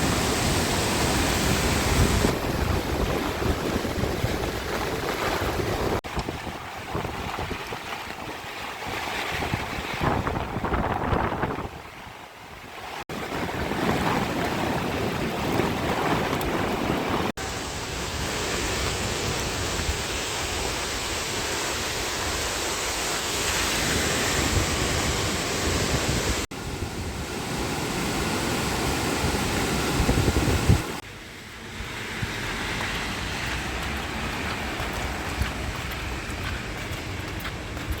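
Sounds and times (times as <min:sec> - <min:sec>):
wind buffeting microphone: 0:00.0 - 0:17.3, 0:17.9 - 0:38.0
stream water rushing: 0:00.0 - 0:38.0.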